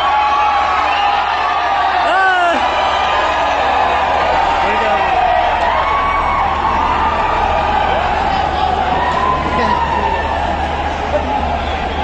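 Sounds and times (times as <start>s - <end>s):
large crowd cheering and shouting: 0.0s - 12.0s.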